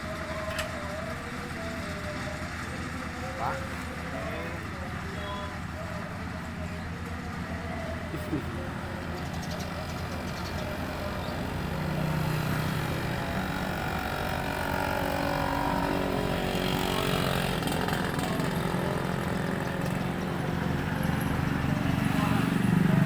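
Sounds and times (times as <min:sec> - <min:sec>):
harvester engine running: 0:00.0 - 0:23.0.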